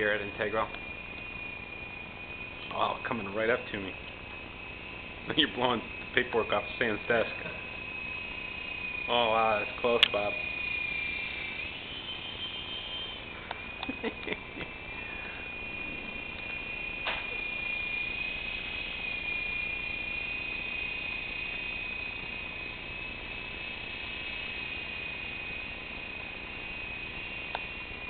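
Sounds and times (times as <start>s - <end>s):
toy helicopter whining: 0.0s - 28.0s.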